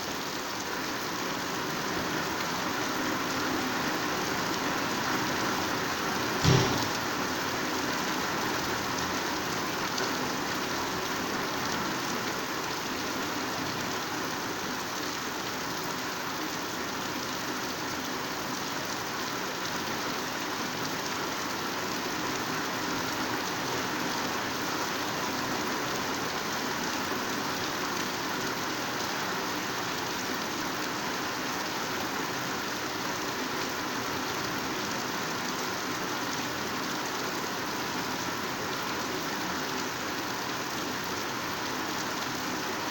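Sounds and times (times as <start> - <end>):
heavy rain on foliage: 0.0 - 42.9.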